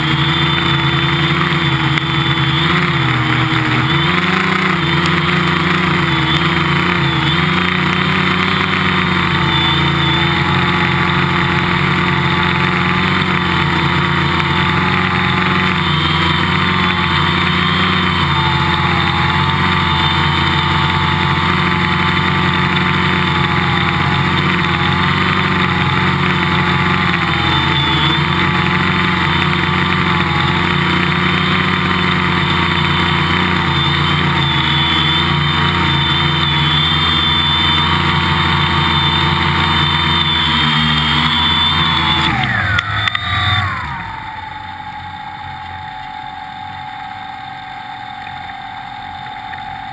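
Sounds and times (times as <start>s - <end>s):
drone propellers whirring: 0.0s - 49.9s.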